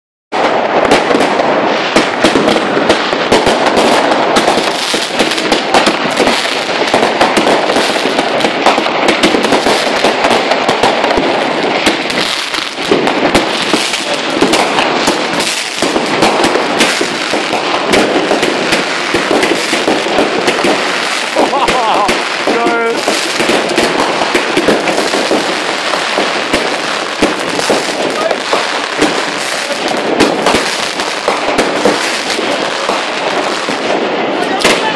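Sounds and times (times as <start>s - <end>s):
fireworks and firecrackers banging: 0.3s - 34.9s.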